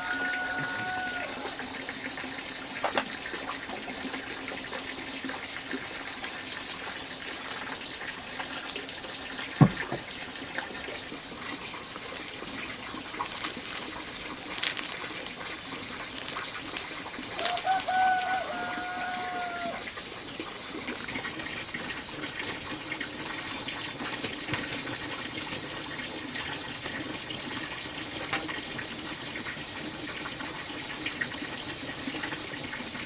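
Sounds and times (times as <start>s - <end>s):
water running: 0.0s - 33.0s.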